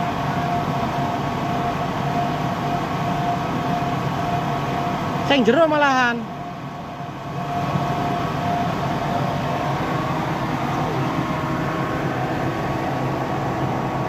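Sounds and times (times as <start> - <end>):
faint machine whine: 0.0 - 14.0
machine low drone: 0.0 - 14.0.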